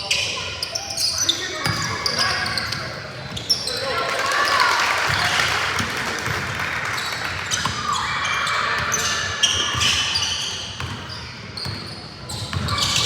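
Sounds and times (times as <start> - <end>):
sneakers squeaking: 0.0 - 5.4, 7.0 - 13.0
spectators chattering: 0.0 - 11.0.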